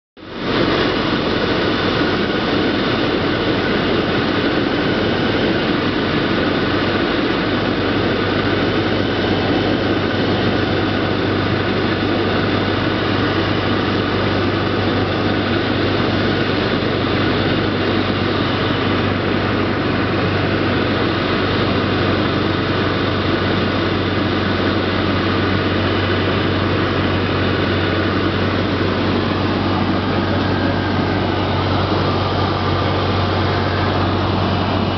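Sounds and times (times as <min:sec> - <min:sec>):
aircraft engine and propeller drone: 0:00.2 - 0:34.9.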